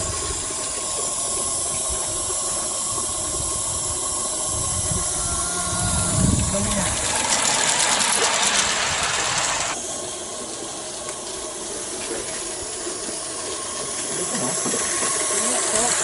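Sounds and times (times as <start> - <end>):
light mechanical running sounds: 0.0 - 16.0
model steam locomotive hissing: 0.0 - 16.0.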